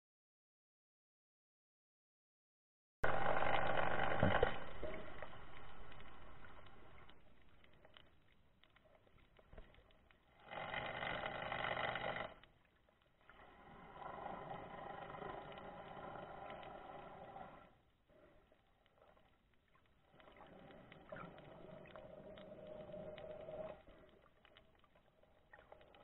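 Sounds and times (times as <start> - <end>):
muffled underwater rushing water: 3.1 - 12.0, 12.6 - 26.0.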